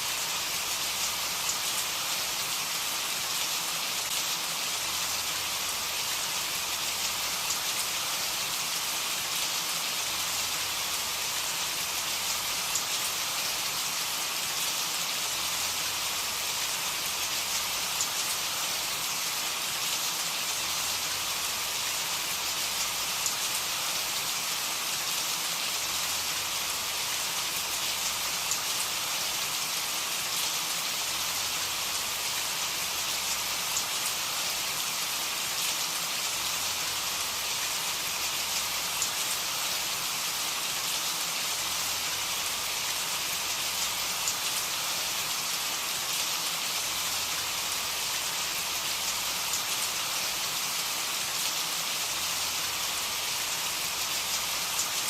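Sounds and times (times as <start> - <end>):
steady rain on a surface: 0.0 - 55.0.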